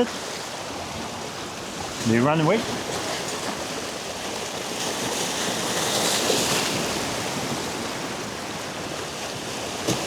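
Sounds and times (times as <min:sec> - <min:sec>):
sea waves washing against rocks: 0:00.0 - 0:10.0.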